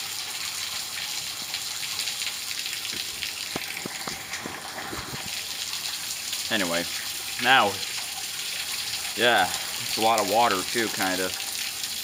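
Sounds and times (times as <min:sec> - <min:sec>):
rain falling: 0:00.0 - 0:12.0
water drips: 0:00.0 - 0:12.0
water running: 0:01.2 - 0:12.0.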